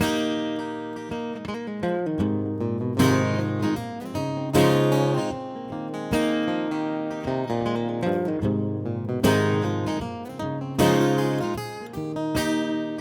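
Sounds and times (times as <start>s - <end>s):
acoustic guitar strummed chords: 0.0s - 13.0s
picked guitar notes: 0.0s - 13.0s.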